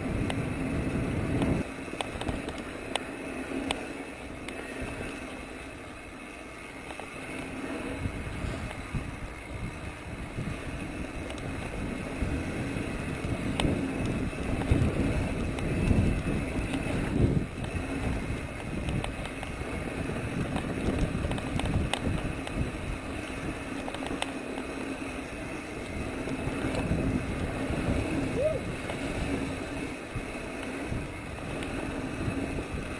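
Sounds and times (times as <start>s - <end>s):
wind buffeting microphone: 0.0s - 3.1s, 6.8s - 32.9s
bike clicks and rattles: 0.0s - 32.9s
bike tyres rumbling on dirt: 0.0s - 32.9s.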